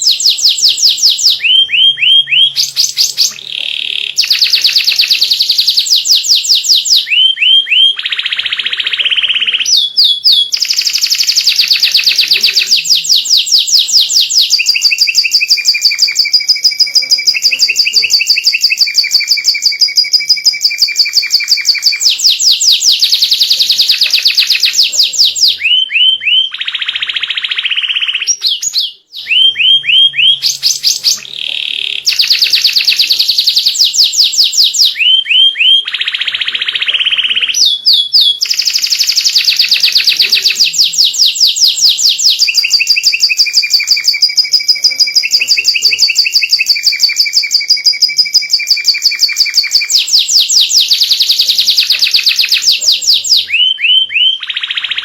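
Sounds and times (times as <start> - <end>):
canary singing rapid trills: 0.0 - 55.0.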